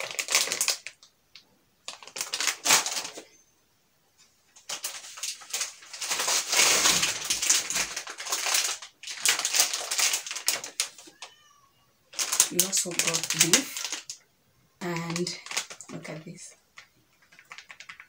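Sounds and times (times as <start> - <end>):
plastic bags crinkling: 0.0 - 3.4, 4.5 - 11.4, 12.1 - 18.0.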